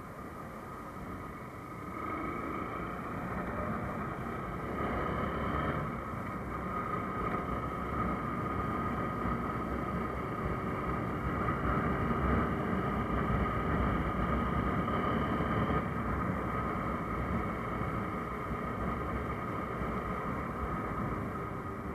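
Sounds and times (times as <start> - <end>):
motorcycle engine drone: 0.0 - 21.9.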